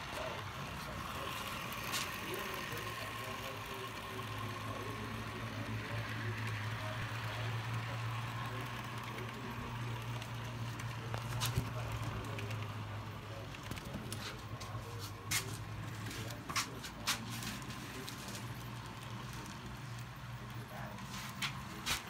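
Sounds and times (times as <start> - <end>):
model train wheels on rails: 0.0 - 22.0.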